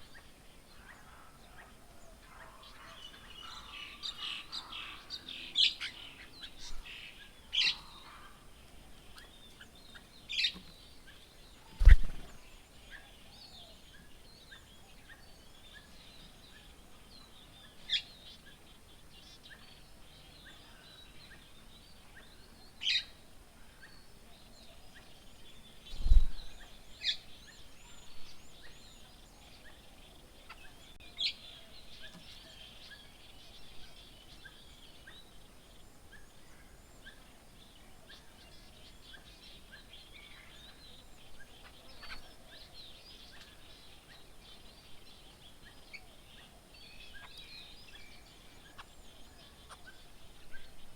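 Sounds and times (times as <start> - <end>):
faint bird chirping: 0.0 - 50.9.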